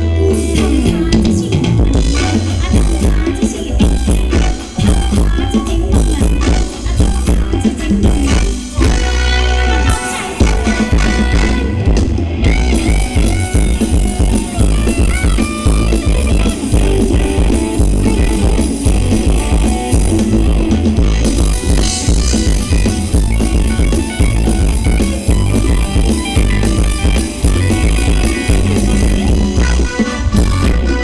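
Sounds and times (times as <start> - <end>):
live band dance music: 0.0 - 31.0.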